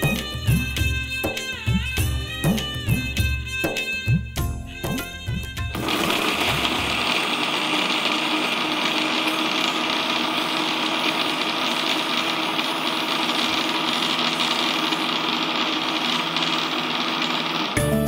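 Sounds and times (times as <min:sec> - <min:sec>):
electric mixer grinder running: 0:00.0 - 0:03.2, 0:05.0 - 0:18.0.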